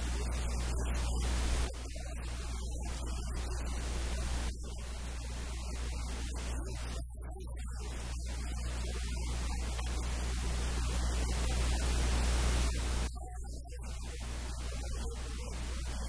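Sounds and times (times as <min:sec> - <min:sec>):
low electrical hum: 0:00.0 - 0:16.0
static hiss: 0:00.0 - 0:16.0.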